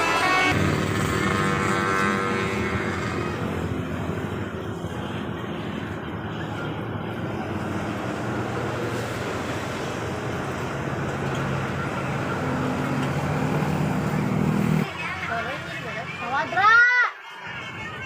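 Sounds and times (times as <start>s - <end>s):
vehicle engine: 0.0s - 16.5s
road traffic noise: 0.0s - 18.0s.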